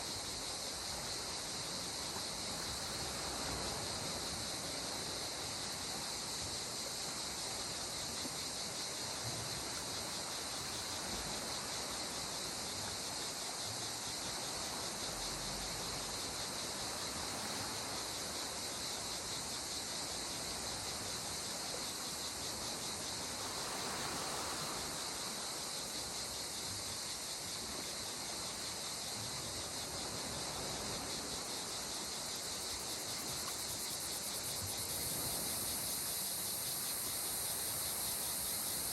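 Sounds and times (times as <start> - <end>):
high insect chorus: 0.0 - 38.9.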